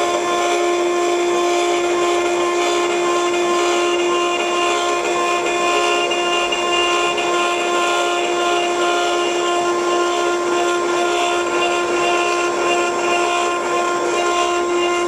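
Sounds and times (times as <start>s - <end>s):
wood lathe whine: 0.0s - 15.0s.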